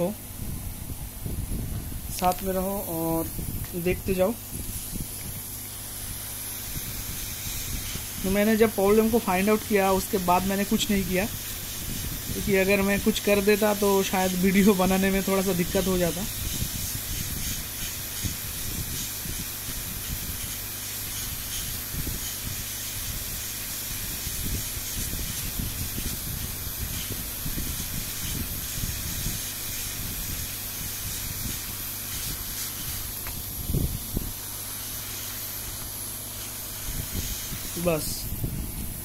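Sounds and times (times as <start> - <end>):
hot air blower hissing: 0.0 - 39.0.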